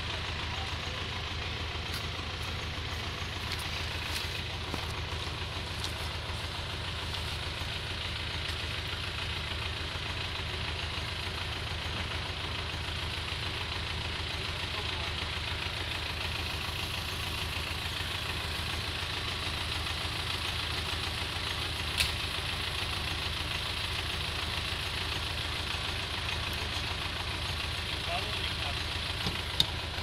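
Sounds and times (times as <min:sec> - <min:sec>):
vehicle engine idling: 0:00.0 - 0:30.0.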